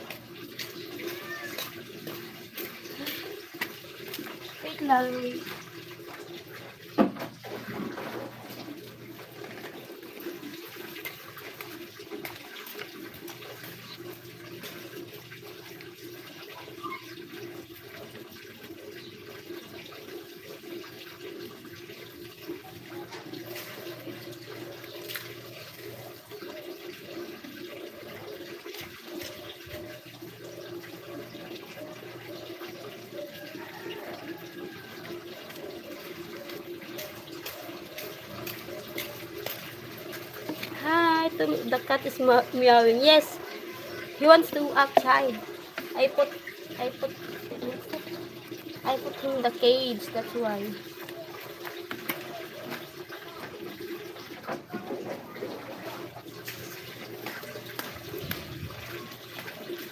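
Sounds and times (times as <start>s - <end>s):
water running: 0.0s - 59.9s.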